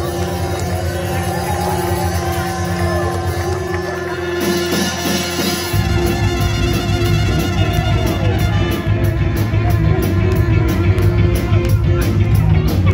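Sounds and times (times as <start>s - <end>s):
live band playing upbeat music: 0.0s - 12.9s.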